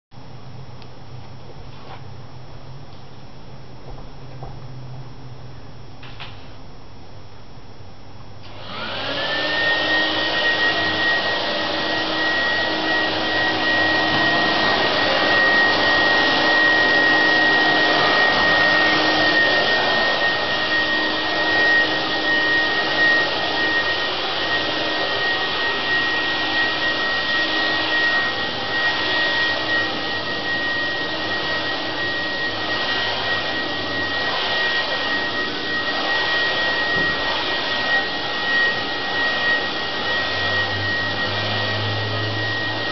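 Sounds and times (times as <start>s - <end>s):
electric fan motor whining: 8.4s - 42.9s.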